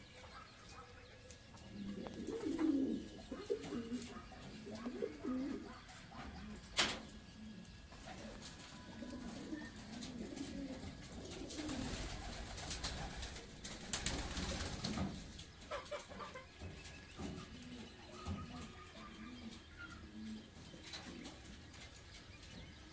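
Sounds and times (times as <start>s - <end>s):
pigeons cooing: 0.0s - 22.9s.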